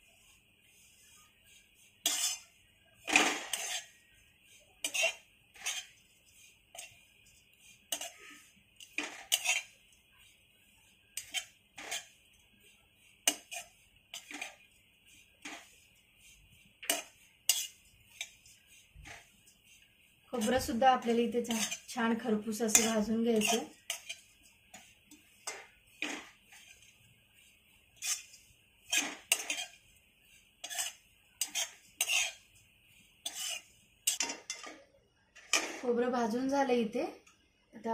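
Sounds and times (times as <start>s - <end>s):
spatula scraping coconut in pan: 0.0s - 34.6s, 35.4s - 35.9s.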